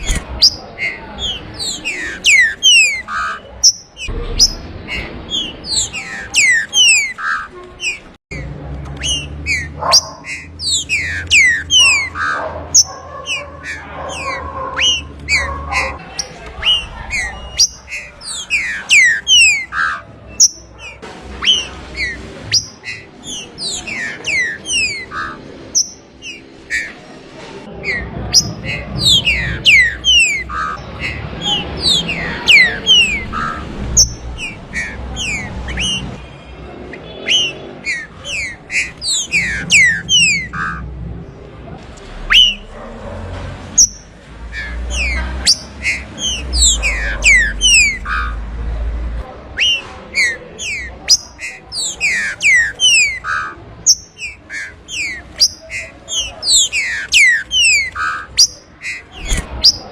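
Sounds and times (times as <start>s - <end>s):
bird whistling song: 0.0s - 8.4s, 9.0s - 27.0s, 27.8s - 36.2s, 37.0s - 40.8s, 42.3s - 42.7s, 43.8s - 48.4s, 49.6s - 59.9s.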